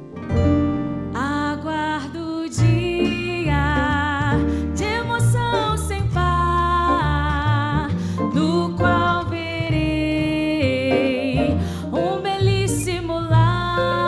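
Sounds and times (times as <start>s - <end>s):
acoustic guitar: 0.0s - 14.0s
piano: 0.0s - 14.0s
upright bass: 0.0s - 14.0s
woman singing: 1.2s - 14.0s.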